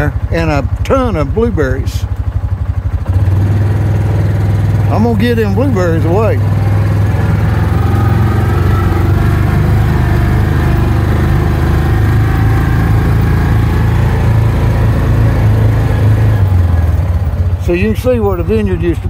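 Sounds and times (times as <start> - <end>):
utility vehicle engine humming: 0.0 - 19.0.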